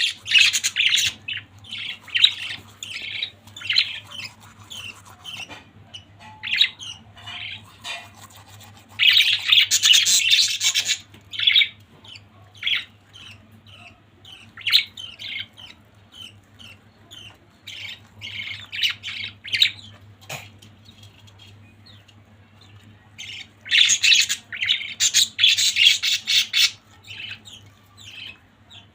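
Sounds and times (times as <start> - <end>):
budgerigars chirping and chattering: 0.0 - 28.9.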